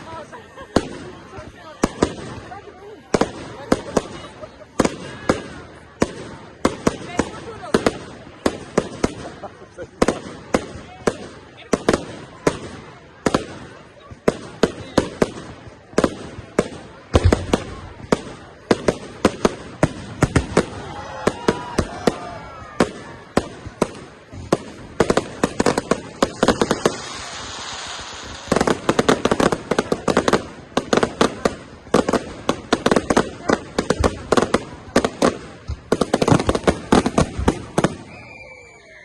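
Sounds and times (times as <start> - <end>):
fireworks bangs and crackles: 0.0 - 39.0
fireworks hissing crackle: 0.0 - 39.0.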